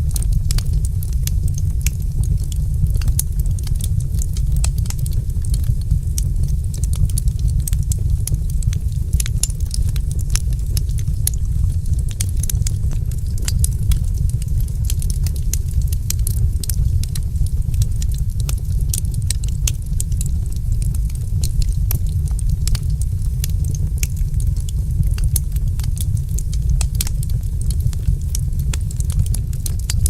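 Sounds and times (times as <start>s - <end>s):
low rumble: 0.0s - 30.0s
wood fire crackling: 0.0s - 30.0s.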